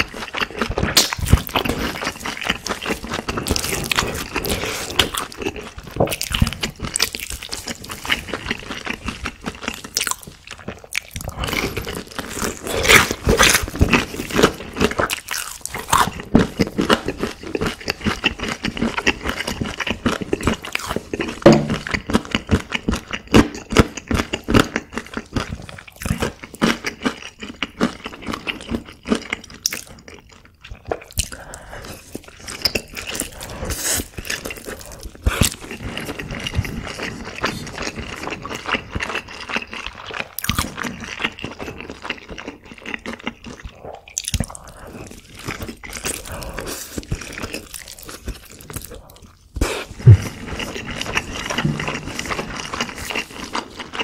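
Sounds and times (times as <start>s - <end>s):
chewing and biting chicken: 0.0s - 54.0s.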